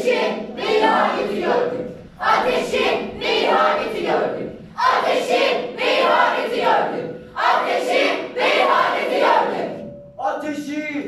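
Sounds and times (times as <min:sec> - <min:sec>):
young voices chanting in unison: 0:00.0 - 0:09.9.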